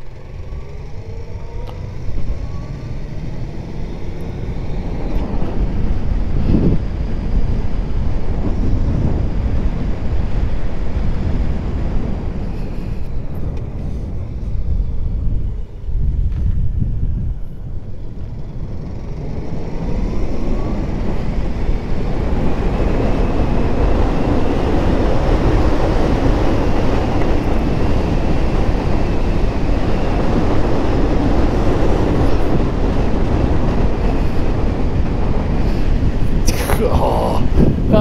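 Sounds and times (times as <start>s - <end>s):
wind rush: 1.2s - 38.0s.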